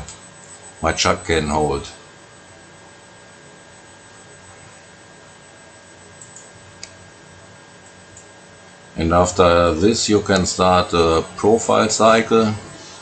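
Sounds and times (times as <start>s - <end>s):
electrical hum and hiss: 0.0s - 13.0s
thin constant tones: 0.0s - 13.0s.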